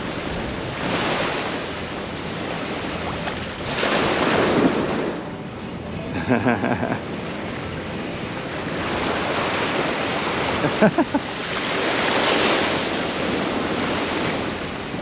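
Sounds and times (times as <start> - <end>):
small waves on sandy shore: 0.0 - 15.0.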